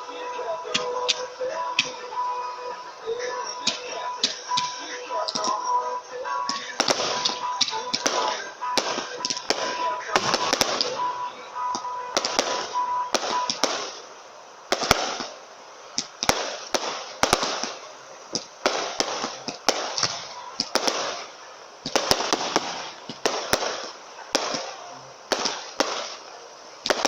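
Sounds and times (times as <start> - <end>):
fireworks bangs: 0.0 - 27.0
noisy hiss: 0.0 - 27.0.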